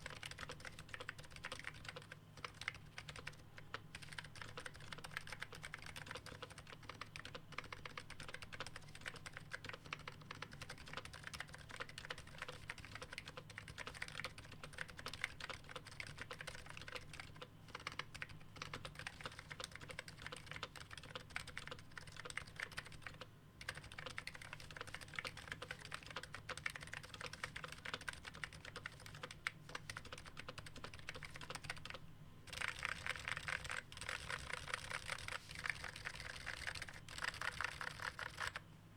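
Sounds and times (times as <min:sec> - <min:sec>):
fast keyboard typing: 0:00.0 - 0:38.6.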